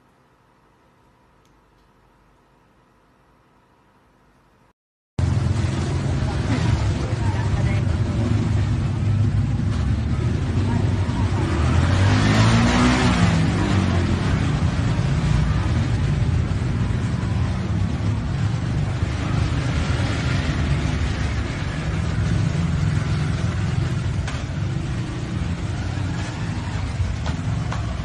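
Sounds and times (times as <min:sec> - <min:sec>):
car and motorbike engines: 0:05.2 - 0:28.0
vehicle passing by: 0:05.2 - 0:28.0.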